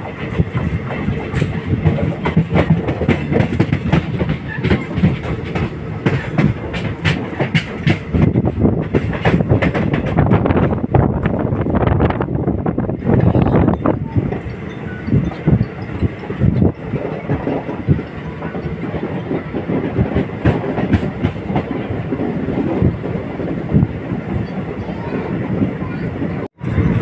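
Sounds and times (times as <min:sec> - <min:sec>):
rumble of train wheels on track: 0:00.0 - 0:27.0.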